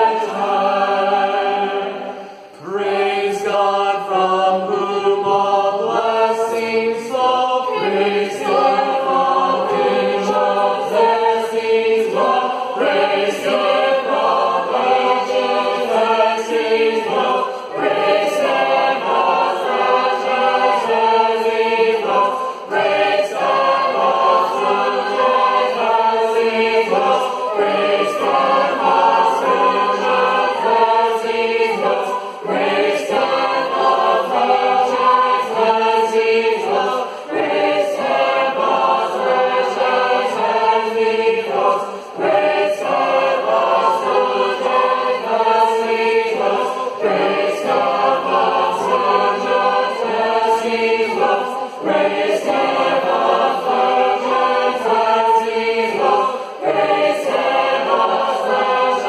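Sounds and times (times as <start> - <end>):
group singing a hymn: 0.0 - 59.0.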